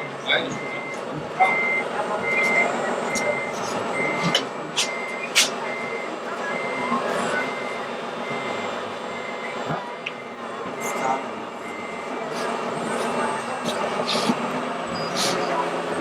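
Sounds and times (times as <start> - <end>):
reversing warning beeps: 0.0 - 16.0.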